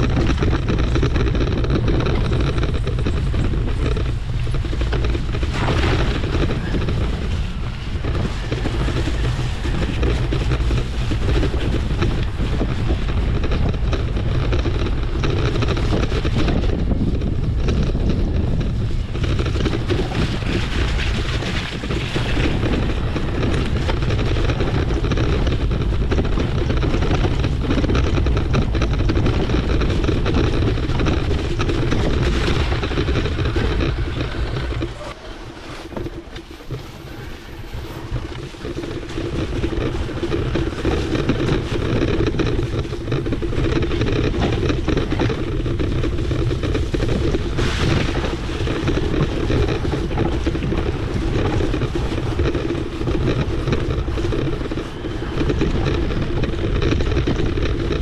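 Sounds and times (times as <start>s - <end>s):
bike tyre rumble on trail: 0.0s - 58.0s
wind buffeting microphone: 0.0s - 58.0s.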